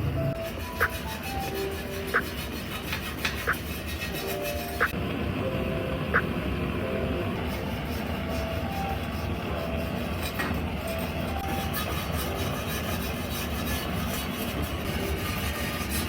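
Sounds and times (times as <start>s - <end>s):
rhythmic scraping strokes: 0.0s - 5.0s, 7.3s - 16.0s.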